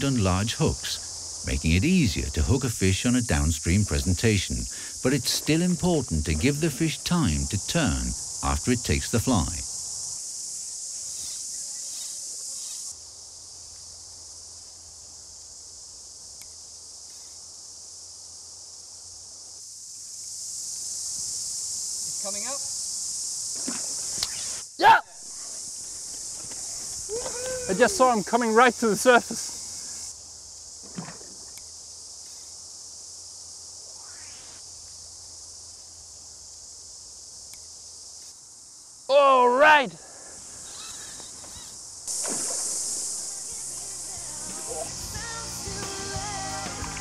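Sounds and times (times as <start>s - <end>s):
cicadas buzzing: 0.0s - 47.0s.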